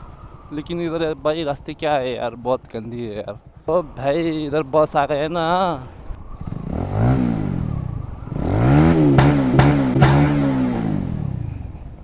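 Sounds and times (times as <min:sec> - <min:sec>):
exhaust cracks: 0:00.0 - 0:12.0
motorcycle engine revving: 0:00.0 - 0:12.0.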